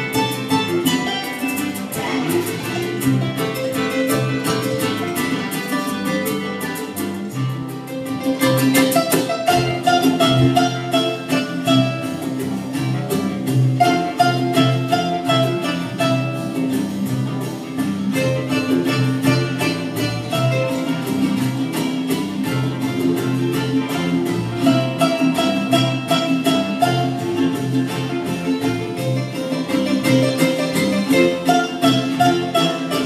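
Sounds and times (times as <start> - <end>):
harp guitar and bass ensemble: 0.0 - 33.0.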